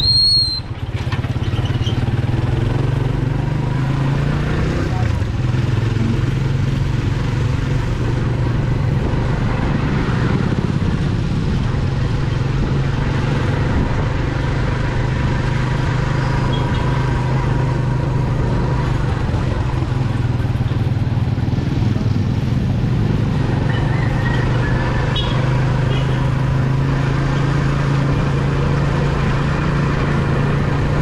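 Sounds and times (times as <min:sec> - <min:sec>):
tyre and road noise: 0:00.0 - 0:31.0.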